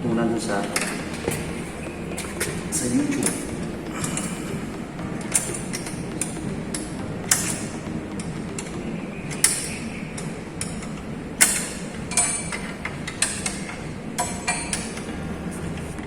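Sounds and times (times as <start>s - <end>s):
hand tools clicking on metal: 0.5s - 16.0s.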